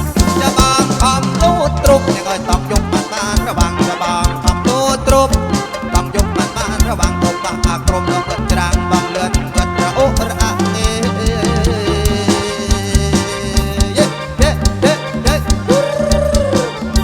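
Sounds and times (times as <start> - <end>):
folk music through loudspeakers: 0.0 - 17.0
steady drum beat: 0.0 - 17.0.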